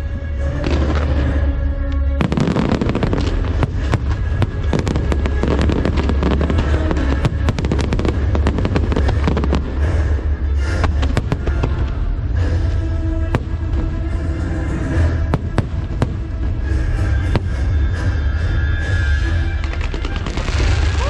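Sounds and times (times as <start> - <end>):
fireworks bursting and crackling: 0.0 - 21.0.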